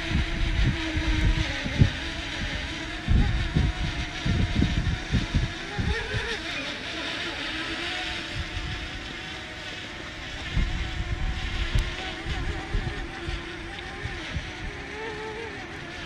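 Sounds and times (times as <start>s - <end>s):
drone propellers buzzing: 0.0s - 16.0s
wind buffeting microphone: 0.0s - 16.0s.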